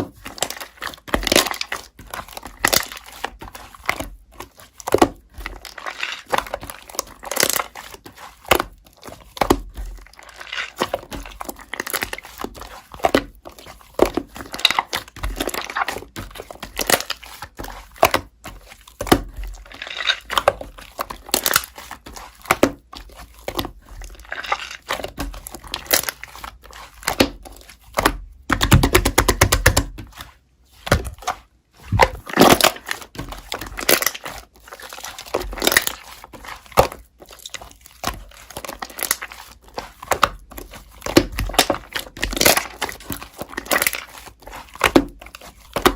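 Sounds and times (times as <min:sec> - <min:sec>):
slime crackling and popping: 0:00.0 - 0:30.0, 0:30.9 - 0:45.9.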